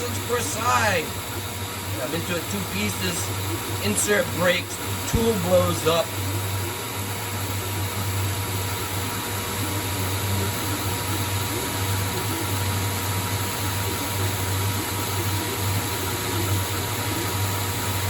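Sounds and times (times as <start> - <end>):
lathe running with hum and hiss: 0.0 - 18.0.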